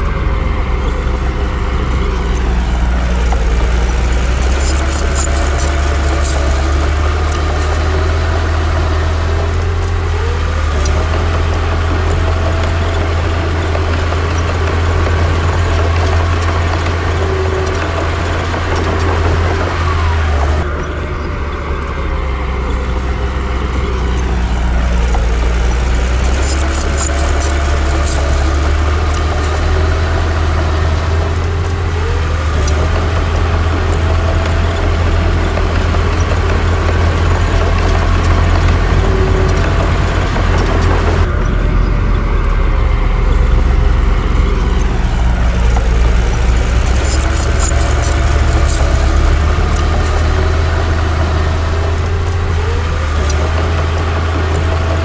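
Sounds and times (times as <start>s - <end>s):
heavy machinery diesel engine drone: 0.0s - 55.0s
scattered clicks: 0.0s - 55.0s.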